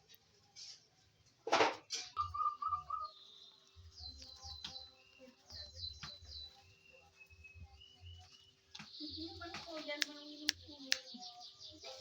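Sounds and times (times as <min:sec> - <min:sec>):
bird chirping: 0:02.1 - 0:12.0
thin whistled bird notes: 0:02.1 - 0:12.0.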